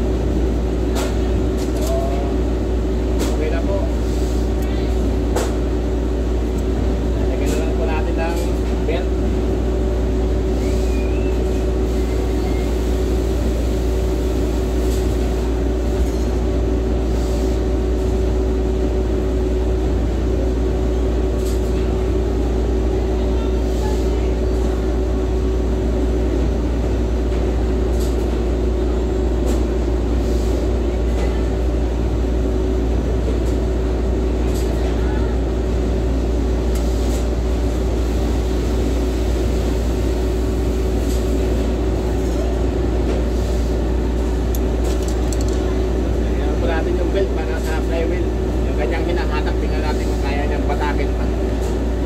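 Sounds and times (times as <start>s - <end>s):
machinery humming: 0.0s - 52.0s.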